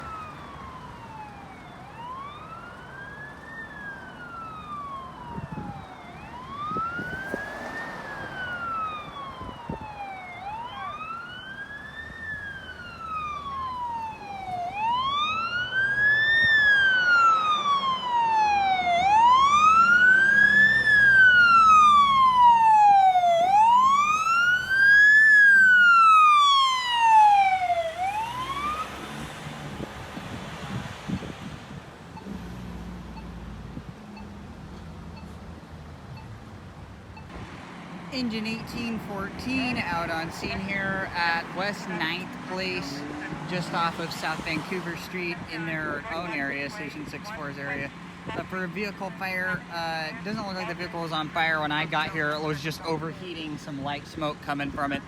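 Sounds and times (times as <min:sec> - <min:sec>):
fire engine siren wailing: 0:00.0 - 0:34.5, 0:38.0 - 0:55.0.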